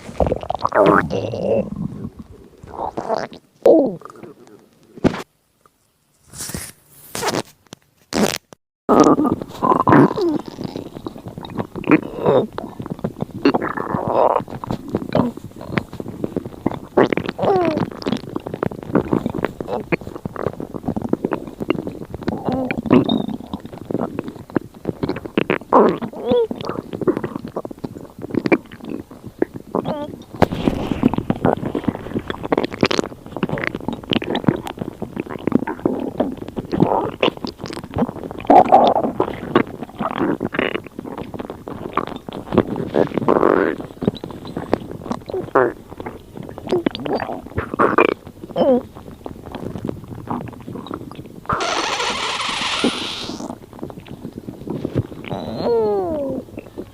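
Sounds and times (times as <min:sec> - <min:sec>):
stomach growling and gurgling: 0:00.0 - 0:05.8, 0:08.2 - 0:56.9.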